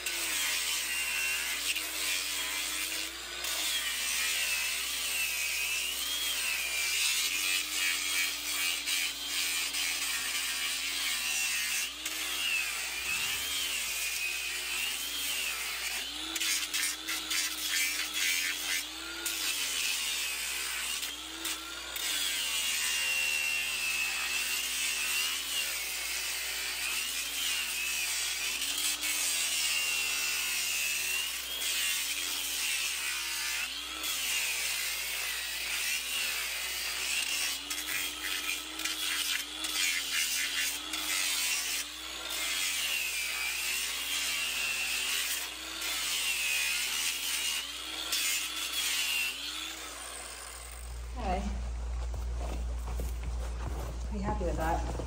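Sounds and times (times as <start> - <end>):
angle grinder whining: 0.0 - 51.9
disc rasping on hoof: 0.0 - 55.0.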